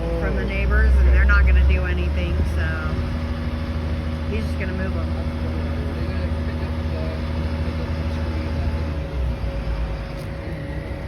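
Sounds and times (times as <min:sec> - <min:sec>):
heavy equipment engine running: 0:00.0 - 0:11.0.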